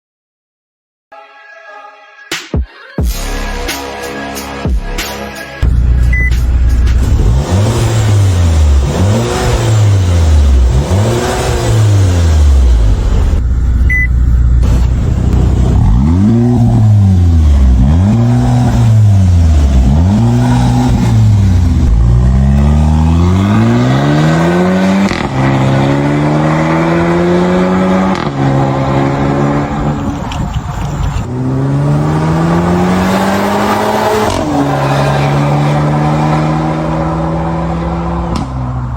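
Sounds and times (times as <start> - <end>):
car engine revving: 5.6 - 38.9.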